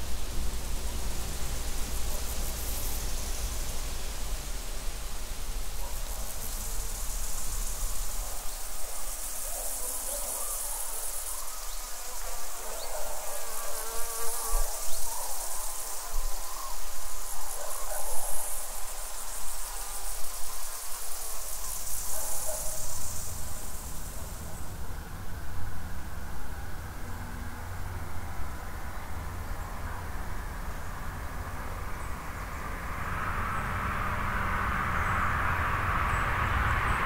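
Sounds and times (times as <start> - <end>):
insects stridulating: 0.0 - 37.0.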